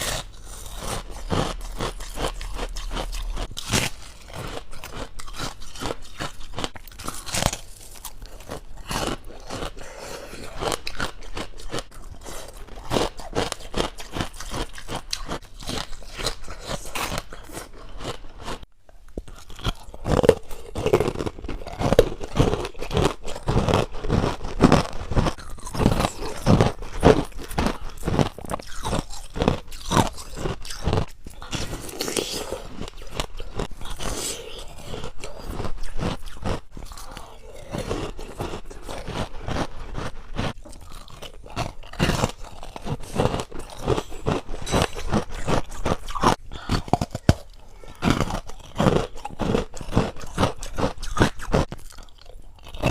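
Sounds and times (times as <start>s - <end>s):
crunching and chewing frost: 0.0s - 52.9s.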